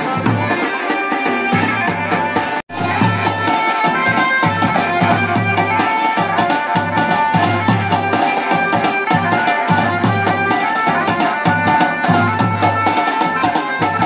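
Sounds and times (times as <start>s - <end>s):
festival music with fast drum beat: 0.0s - 14.0s.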